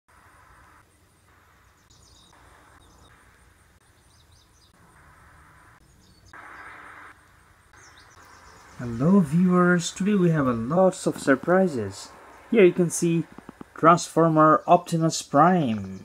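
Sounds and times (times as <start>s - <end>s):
insects buzzing in pulses: 0.1s - 13.8s
bird chirps: 1.4s - 16.0s.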